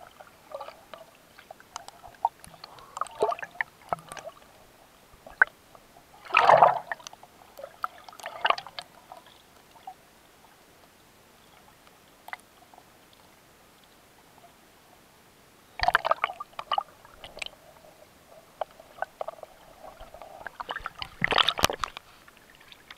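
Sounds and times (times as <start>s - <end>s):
water bubbling and sloshing underwater: 0.0s - 22.9s.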